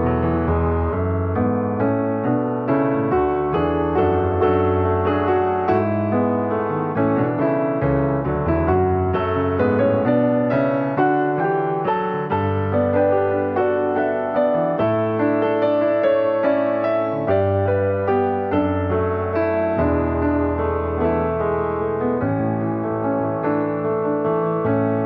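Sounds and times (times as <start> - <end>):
soft piano melody: 0.0 - 25.0.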